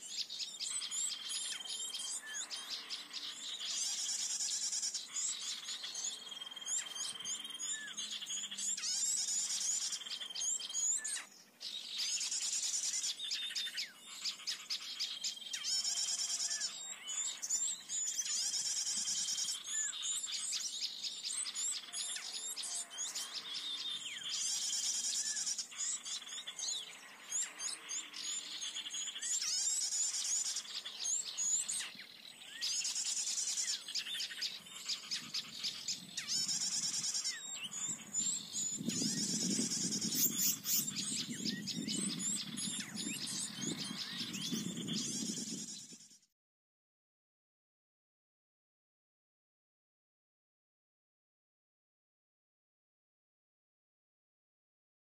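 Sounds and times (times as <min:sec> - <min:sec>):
rapid high bird twittering: 0:00.0 - 0:46.2
thin whistled bird notes: 0:00.0 - 0:46.2.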